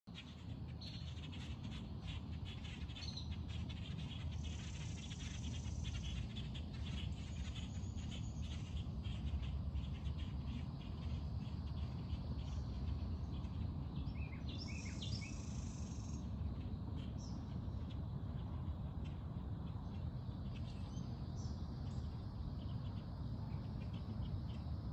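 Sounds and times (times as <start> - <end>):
steady low rumble: 0.1 - 24.9.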